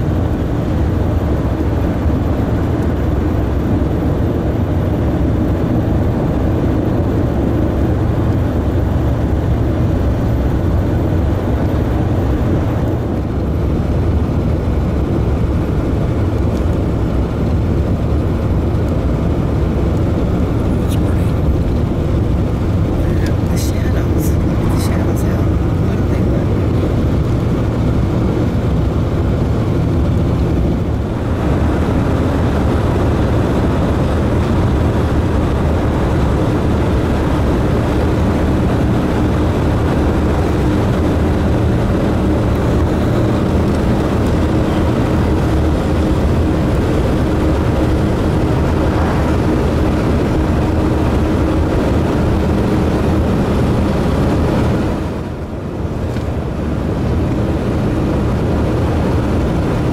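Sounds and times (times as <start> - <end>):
car engine drone: 0.0 - 59.9
road and wind noise: 0.0 - 59.9.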